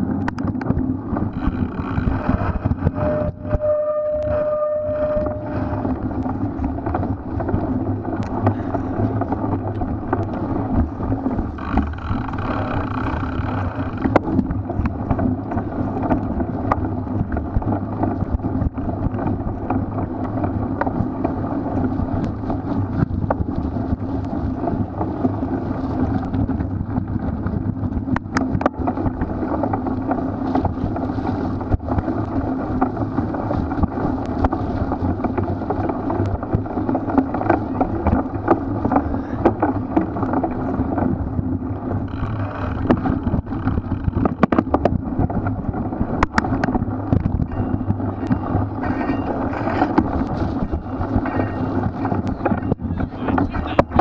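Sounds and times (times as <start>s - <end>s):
bike rattling and knocking: 0.0s - 54.0s
tyres rolling through mud: 0.0s - 54.0s
wind rushing over microphone: 0.0s - 54.0s.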